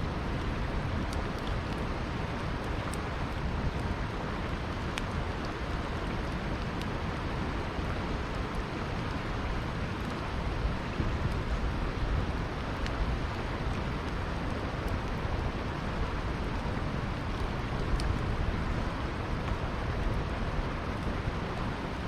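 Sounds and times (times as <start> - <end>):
flowing river: 0.0 - 22.0
campfire crackling: 0.1 - 22.0.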